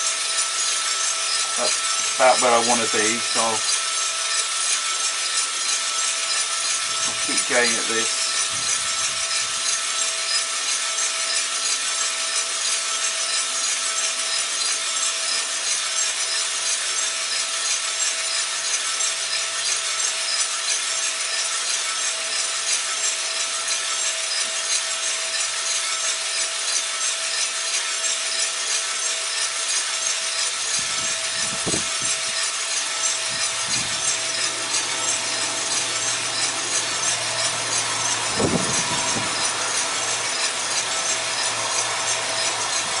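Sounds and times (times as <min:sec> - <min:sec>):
fan and burner hiss: 0:00.0 - 0:43.0.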